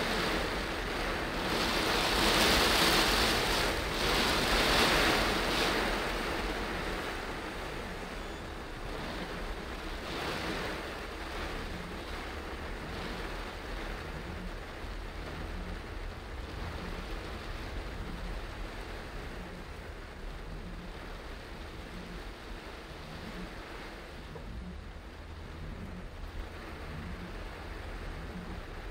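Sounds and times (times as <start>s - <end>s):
heavy rain falling: 0.0s - 28.9s
tyres hissing on wet road: 0.0s - 28.9s.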